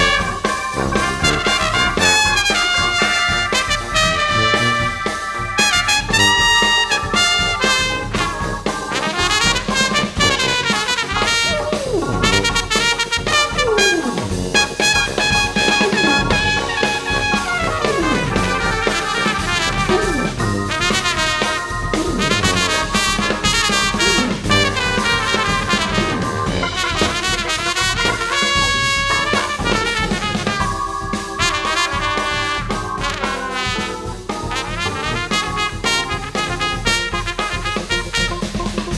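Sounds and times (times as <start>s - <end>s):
jazz brass ensemble music: 0.0s - 38.9s.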